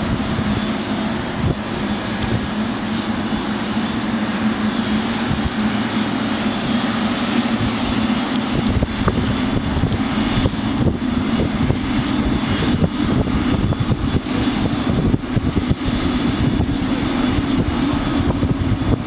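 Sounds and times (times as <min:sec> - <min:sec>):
jet engines droning: 0:00.0 - 0:19.0
wind buffeting microphone: 0:00.0 - 0:19.0.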